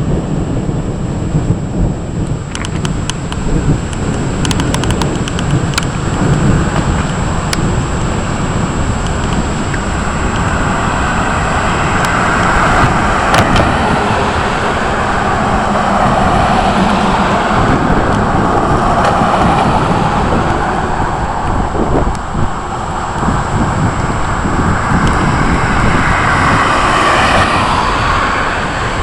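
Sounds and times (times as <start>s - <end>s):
low thunder rumble: 0.0s - 29.0s
rain and wind rushing: 0.0s - 29.0s.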